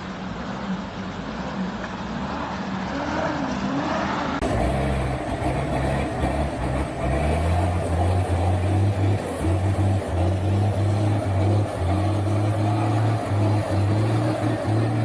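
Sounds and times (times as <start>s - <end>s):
heavy vehicle engines running: 0.0s - 15.0s.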